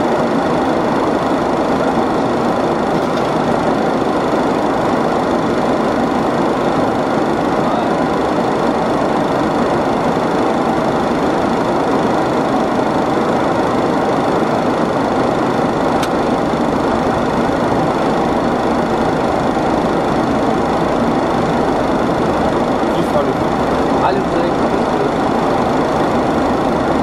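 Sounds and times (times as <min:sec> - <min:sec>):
airplane cabin engine noise: 0:00.0 - 0:27.0.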